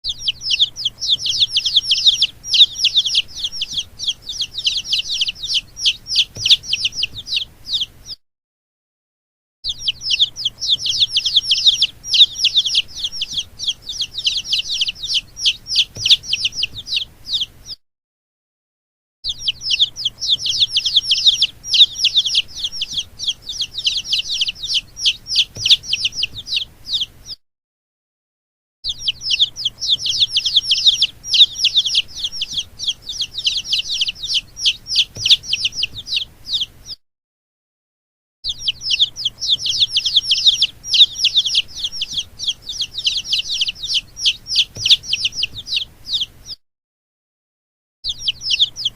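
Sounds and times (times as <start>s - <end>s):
baby chicks peeping: 0.0s - 8.2s, 9.6s - 17.8s, 19.2s - 27.4s, 28.8s - 37.0s, 38.4s - 46.6s, 48.0s - 48.9s.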